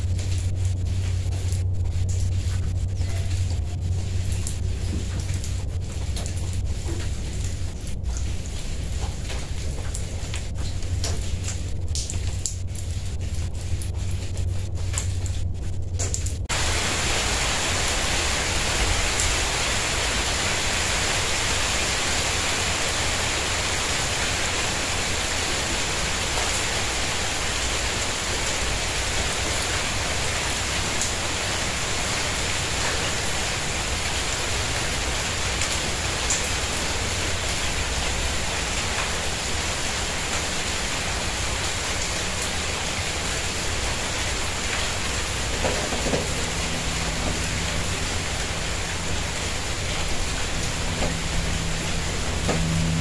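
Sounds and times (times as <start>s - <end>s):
sharp raindrop ticks: 0.0s - 16.7s, 22.2s - 53.0s
rain falling on tiles: 0.0s - 53.0s.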